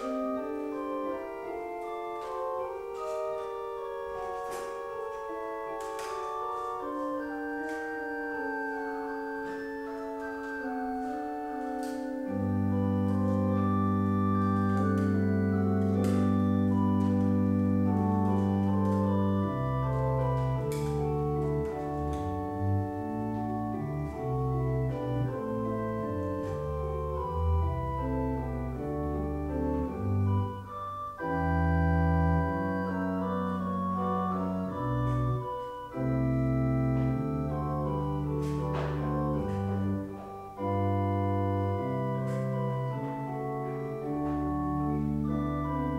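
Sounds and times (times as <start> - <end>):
church organ chords: 0.0 - 45.9.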